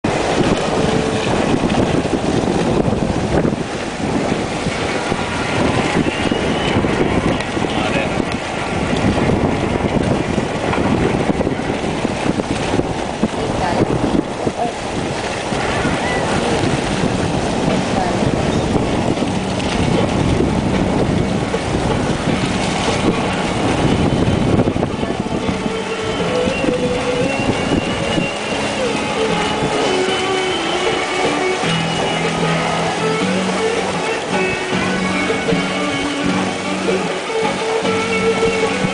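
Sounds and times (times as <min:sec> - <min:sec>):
water churning in boat wake: 0:00.0 - 0:38.9
wind buffeting microphone: 0:00.0 - 0:38.9.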